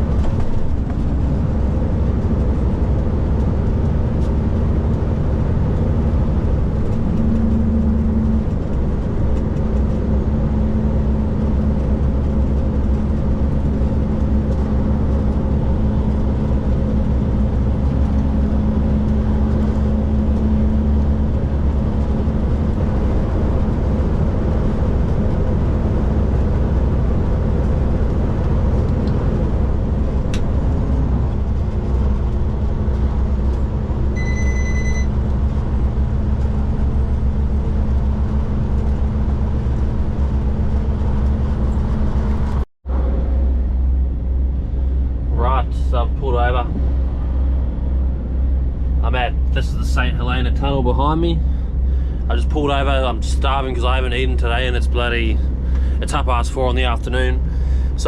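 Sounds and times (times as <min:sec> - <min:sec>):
road and tyre noise: 0:00.0 - 0:58.0
truck diesel engine running: 0:00.0 - 0:58.0.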